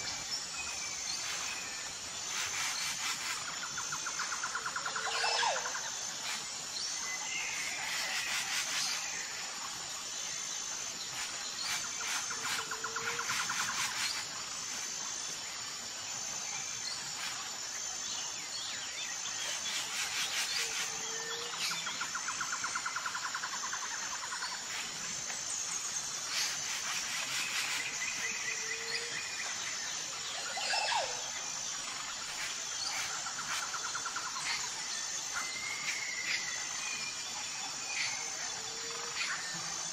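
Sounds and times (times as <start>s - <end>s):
insect chirr: 0.0s - 39.9s.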